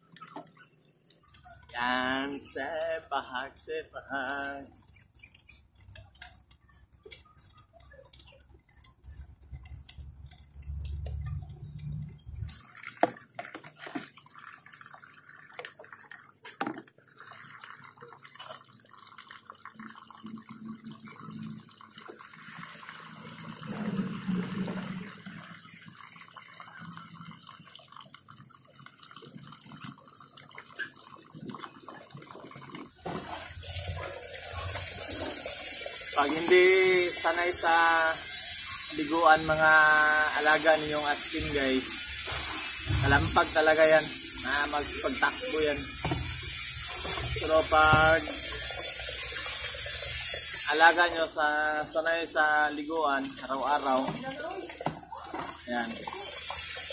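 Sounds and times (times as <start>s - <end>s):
water splashing and dripping: 0.0s - 56.9s.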